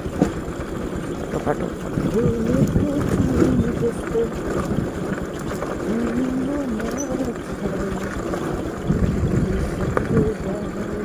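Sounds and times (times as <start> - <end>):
vehicle engine running: 0.0 - 11.0
wind rumble on microphone: 0.0 - 11.0.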